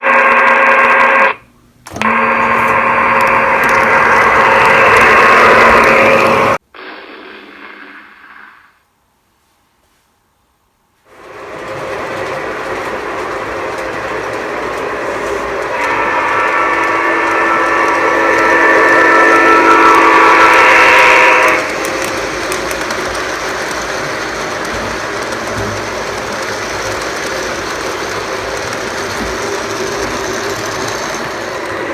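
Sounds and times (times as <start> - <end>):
electronic diesel horn: 0.0 - 6.6, 11.1 - 31.9
model train running on track: 0.0 - 6.6, 11.1 - 31.9.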